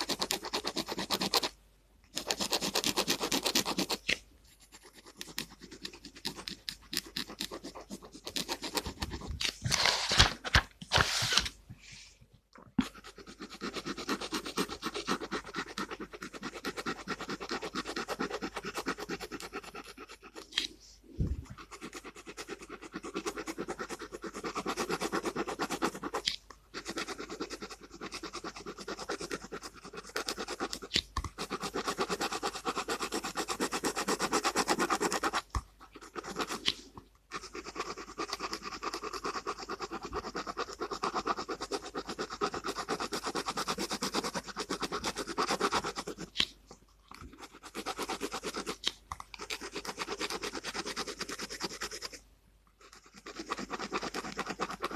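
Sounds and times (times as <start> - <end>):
pen scratching on paper: 0.0 - 11.6, 12.8 - 54.9.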